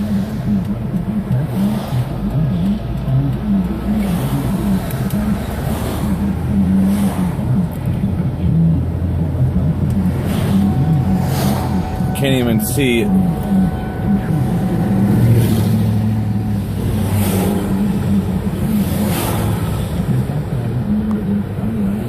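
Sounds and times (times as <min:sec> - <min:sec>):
gas fire roaring: 0:00.0 - 0:22.0.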